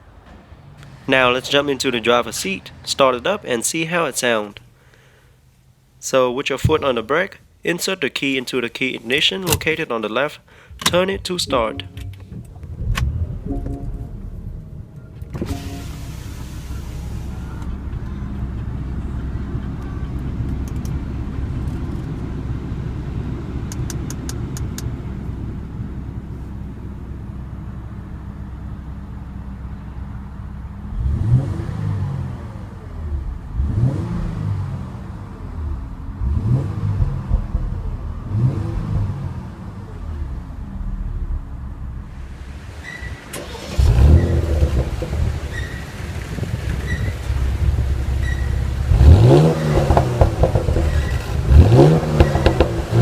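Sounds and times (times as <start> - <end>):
car engine idling and revving: 0.0 - 3.5, 10.7 - 53.0.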